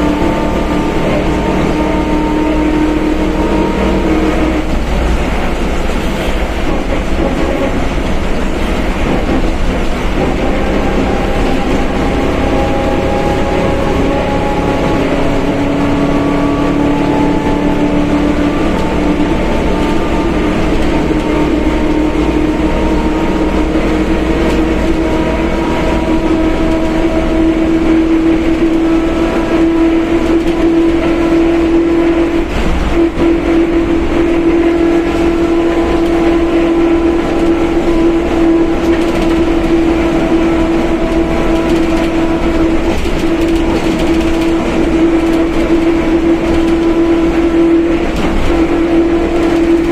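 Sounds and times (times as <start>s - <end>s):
bus differential gear whine: 0.0s - 49.9s
bus running and road noise: 0.0s - 49.9s.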